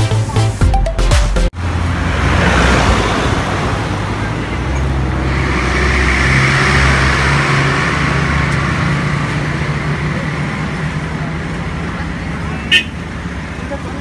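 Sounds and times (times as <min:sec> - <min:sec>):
road noise: 0:01.4 - 0:14.0
vehicle engine humming: 0:01.5 - 0:14.0.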